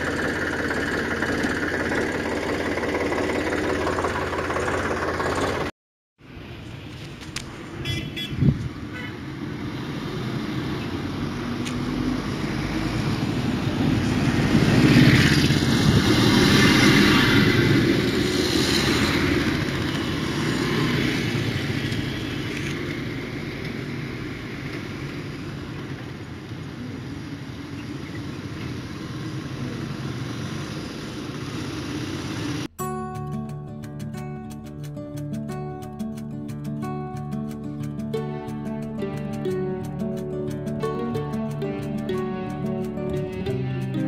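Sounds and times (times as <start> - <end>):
motor vehicle engine: 0.0 - 5.7, 6.3 - 44.0.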